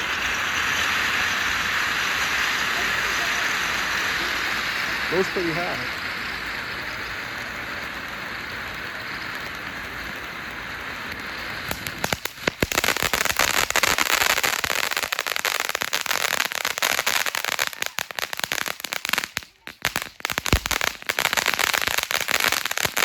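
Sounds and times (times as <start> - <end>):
firework fountain hissing and crackling: 0.0 - 23.0.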